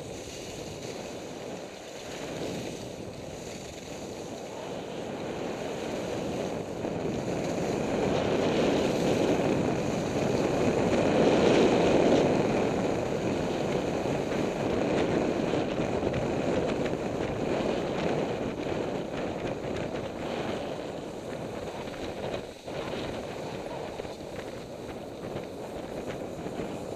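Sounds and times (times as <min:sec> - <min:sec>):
wind rushing over microphone: 0:00.0 - 0:26.9.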